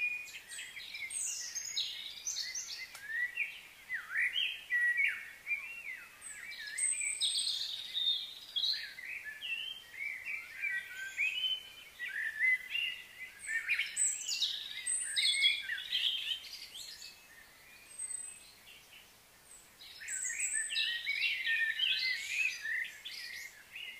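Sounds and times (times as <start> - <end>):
birds chirping and singing: 0.0 - 23.9.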